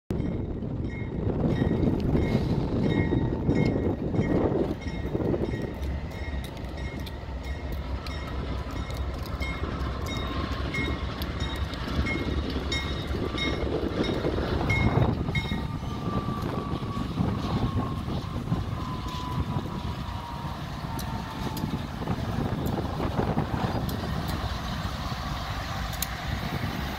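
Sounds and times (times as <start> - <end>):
diesel locomotives rumbling: 0.1 - 26.9.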